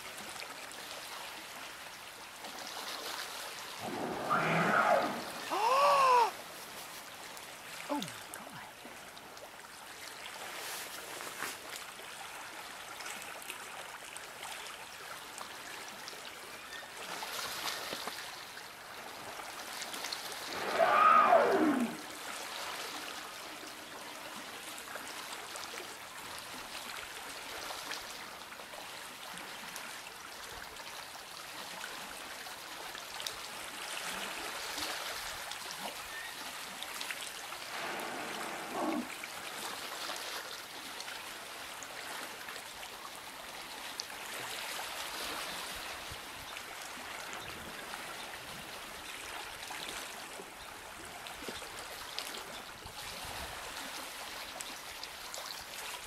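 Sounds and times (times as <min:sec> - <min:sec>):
rough rush of water: 0:00.0 - 0:56.0
water lapping at shoreline: 0:00.0 - 0:56.0.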